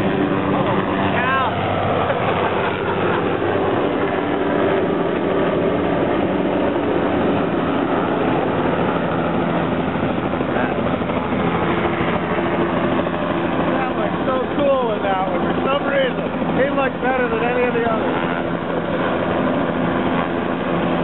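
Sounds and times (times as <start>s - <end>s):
helicopter turbine and rotor: 0.0s - 21.0s.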